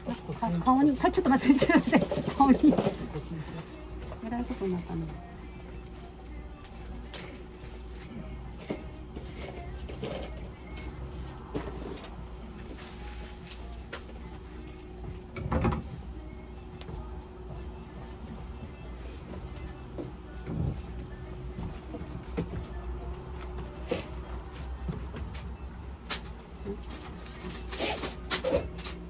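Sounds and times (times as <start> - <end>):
low electrical machine hum: 0.0 - 29.0.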